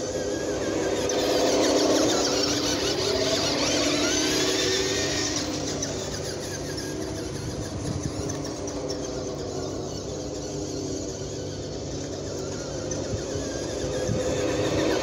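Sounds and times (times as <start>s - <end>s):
toy truck electric motor whine: 0.0s - 15.0s.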